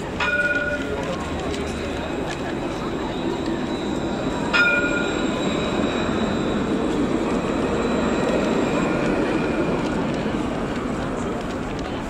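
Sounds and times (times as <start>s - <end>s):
tram rolling noise: 0.0s - 12.0s.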